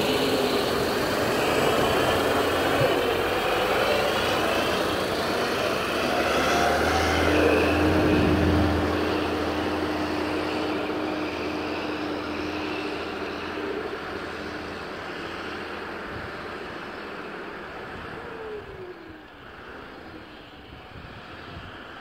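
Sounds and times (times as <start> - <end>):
tractor diesel engine pulling away: 0.0 - 22.0.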